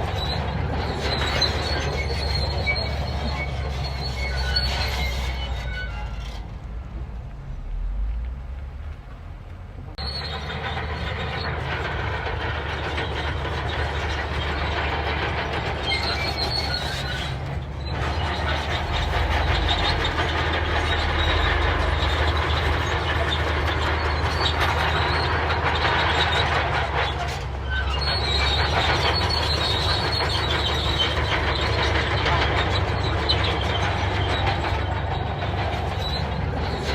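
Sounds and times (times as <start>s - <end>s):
track links squealing: 0.0s - 6.8s, 7.4s - 36.9s
diesel engine droning: 0.0s - 36.9s
steel tracks clanking: 0.0s - 36.9s.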